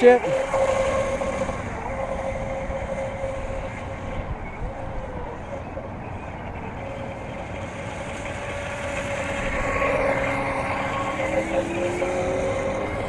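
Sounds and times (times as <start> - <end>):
drone propellers whining: 0.0 - 13.0
lower tone rising: 0.0 - 13.0.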